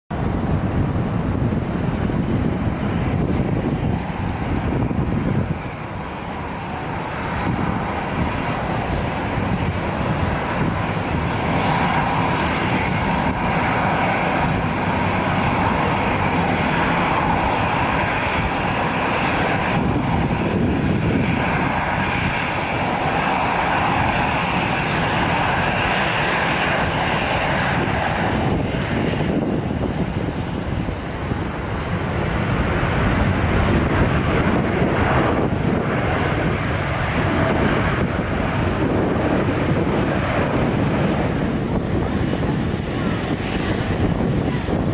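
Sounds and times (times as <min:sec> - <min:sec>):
jet airliner engines rushing: 0:00.1 - 0:44.9.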